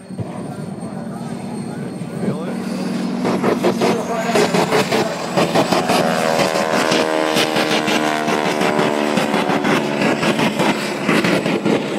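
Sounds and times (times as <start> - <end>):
airplane engine drone: 0.0 - 11.9
engine crackle: 0.0 - 11.9.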